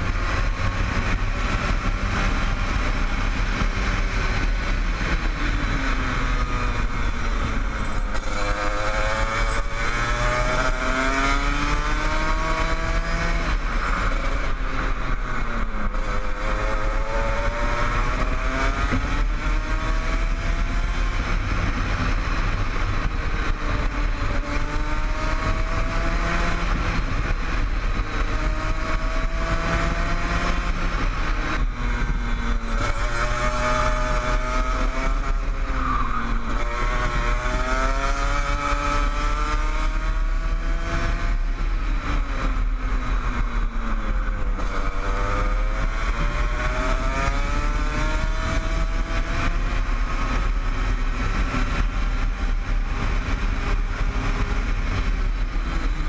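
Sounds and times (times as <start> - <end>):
kart engine at racing speed: 0.0 - 56.0.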